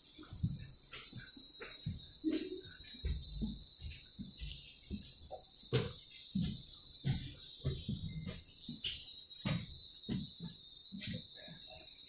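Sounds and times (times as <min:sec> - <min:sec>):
soft footsteps: 0:00.0 - 0:11.9
insect chorus: 0:00.0 - 0:12.0.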